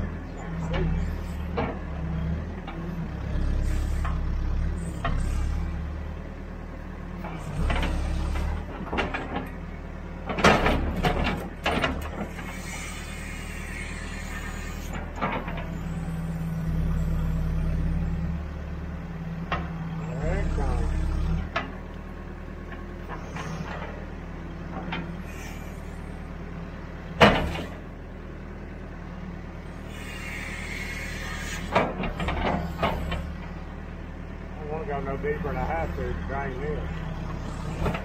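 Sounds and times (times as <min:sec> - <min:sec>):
diesel engine under load: 0:00.0 - 0:38.0.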